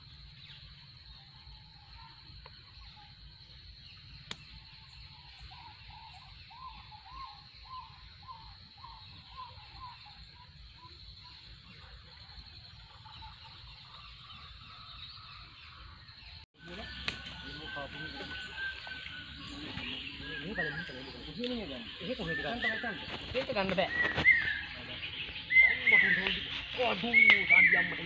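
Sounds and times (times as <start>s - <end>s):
bird calling: 0.0s - 28.0s.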